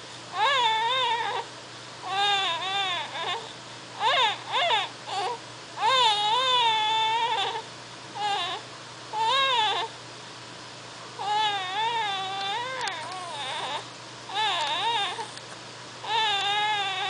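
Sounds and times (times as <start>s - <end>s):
whiny crying: 0.3s - 10.0s, 11.2s - 15.4s, 16.0s - 17.0s.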